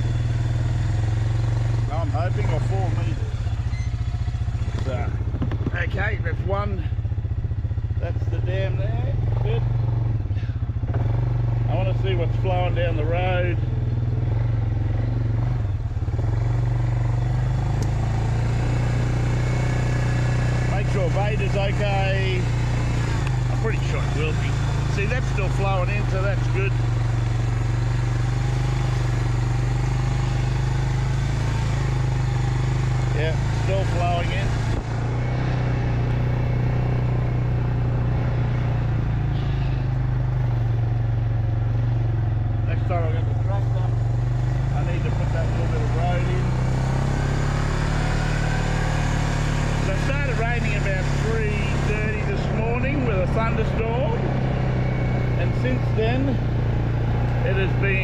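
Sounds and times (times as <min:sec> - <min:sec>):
small vehicle engine running: 0:00.0 - 0:58.0.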